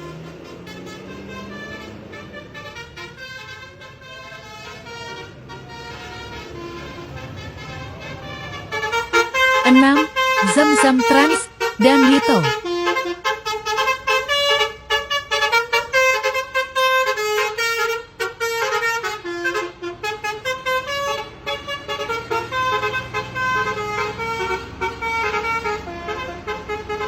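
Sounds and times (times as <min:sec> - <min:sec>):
musical bus horn tune: 0:00.0 - 0:27.0.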